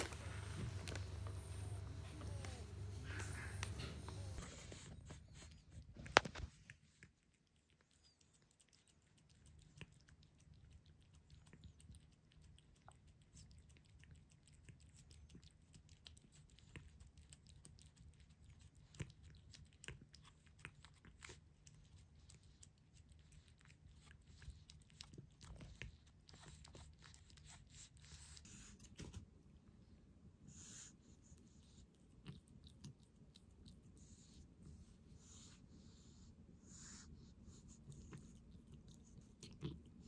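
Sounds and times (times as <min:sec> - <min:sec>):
cat licking and eating wet food: 0:00.0 - 0:40.0.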